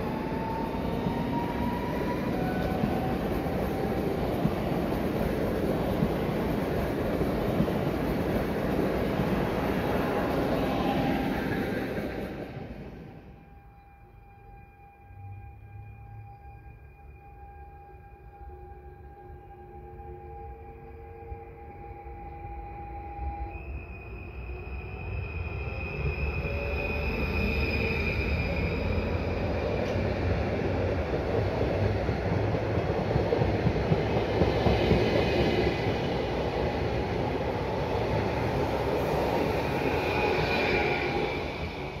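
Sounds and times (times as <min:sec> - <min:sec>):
train rolling noise: 0:00.0 - 0:16.1, 0:16.9 - 0:42.0.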